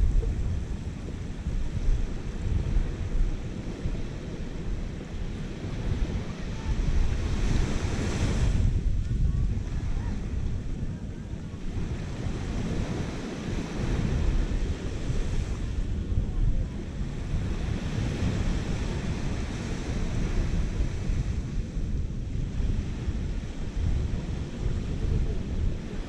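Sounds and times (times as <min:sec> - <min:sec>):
surf washing onto sandy beach: 0:00.0 - 0:26.0
wind buffeting microphone: 0:00.0 - 0:26.0.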